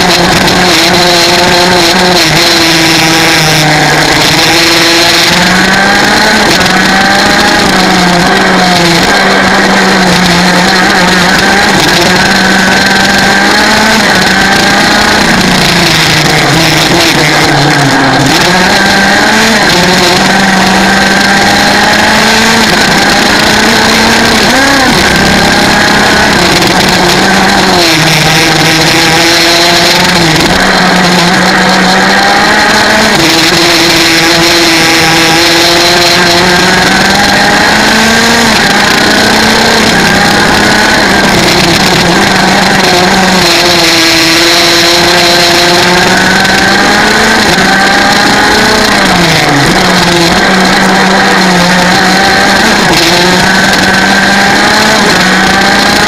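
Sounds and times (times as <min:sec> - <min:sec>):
racing kart engine revving: 0:00.0 - 0:56.0.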